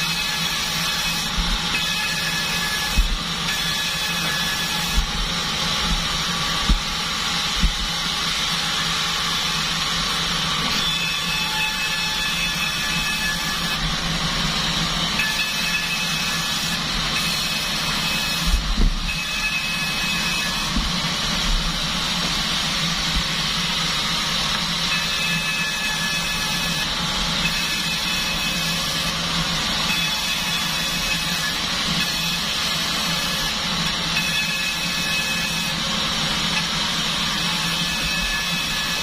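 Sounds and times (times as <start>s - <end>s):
band sawmill running: 0.0s - 39.0s.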